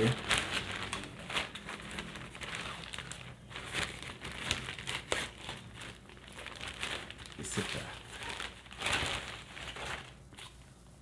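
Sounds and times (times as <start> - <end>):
gift wrap rustling and crackling: 0.0 - 10.8.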